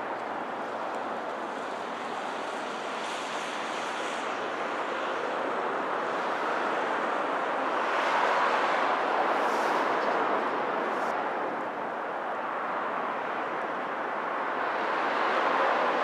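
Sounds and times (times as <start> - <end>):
steady rushing background noise: 0.0 - 16.0.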